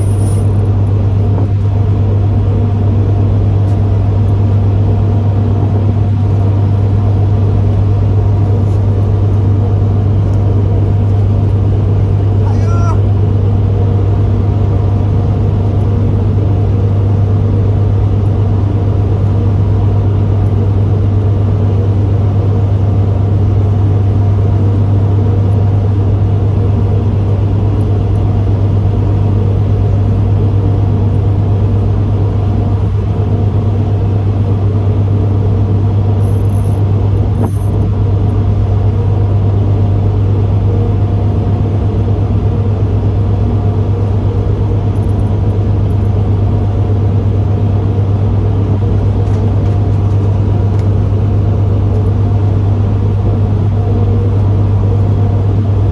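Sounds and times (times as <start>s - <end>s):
boat engine deep hum: 0.0s - 55.9s.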